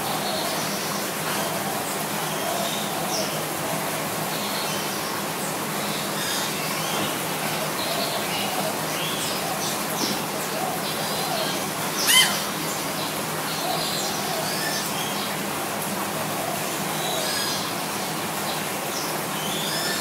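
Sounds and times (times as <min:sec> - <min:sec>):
noisy background with low hum: 0:00.0 - 0:20.0.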